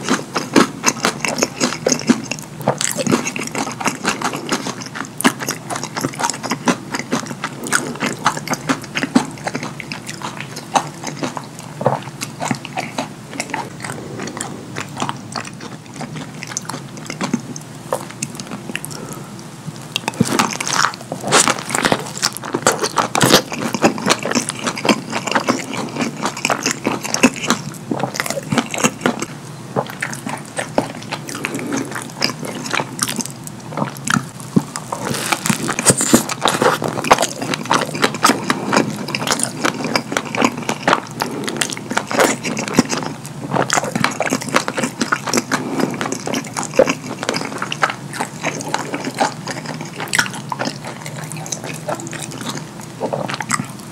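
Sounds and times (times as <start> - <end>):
wet chewing and lip smacking: 0.0 - 53.9.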